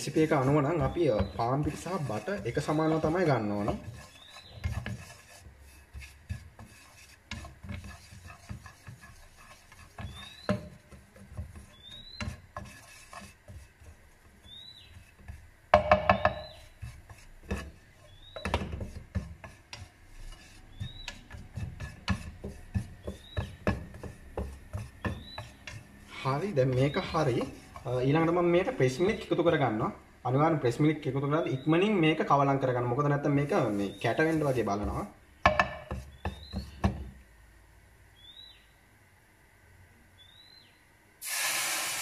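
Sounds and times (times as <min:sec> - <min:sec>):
plastic spatula scraping frying pan: 0:00.0 - 0:29.9, 0:33.2 - 0:37.1.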